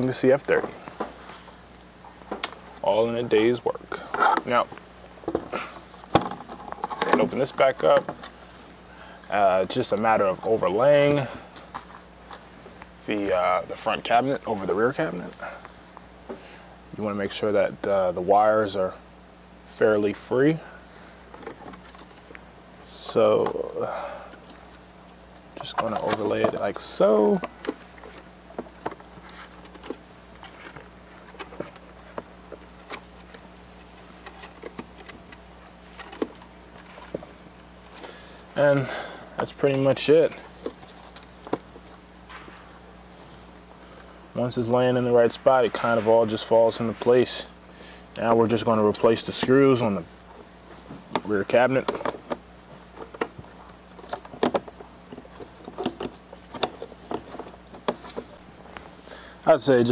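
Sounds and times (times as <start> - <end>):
faint electrical hum: 0.0 - 59.9.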